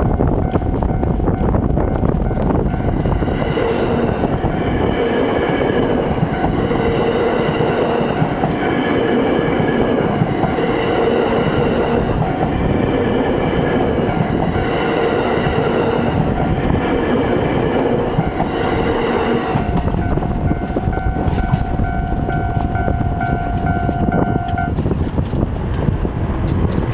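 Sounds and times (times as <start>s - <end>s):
steady mix of tones: 0.0s - 24.9s
train wheels clattering on rails: 0.0s - 26.9s.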